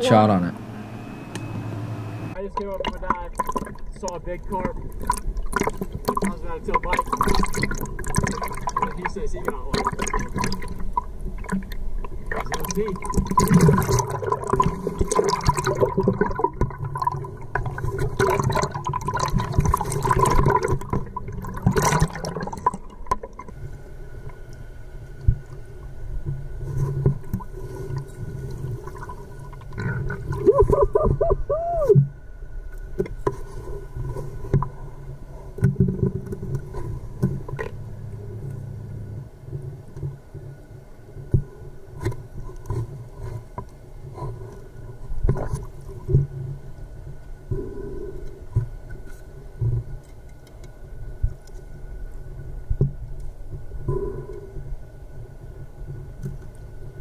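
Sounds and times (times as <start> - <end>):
faint steady whine: 0.0 - 57.0
muffled underwater sloshing: 0.0 - 57.0.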